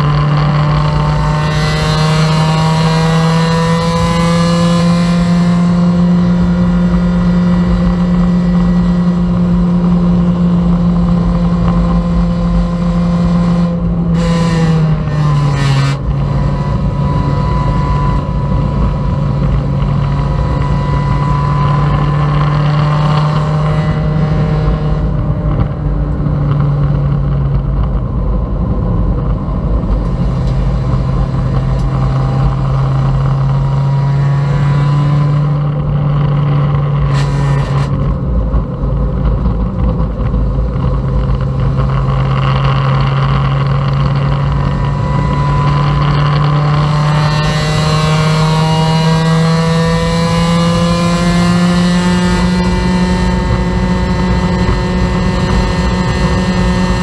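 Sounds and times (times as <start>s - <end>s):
car engine running hard: 0.0s - 57.0s
road and wind noise: 0.0s - 57.0s.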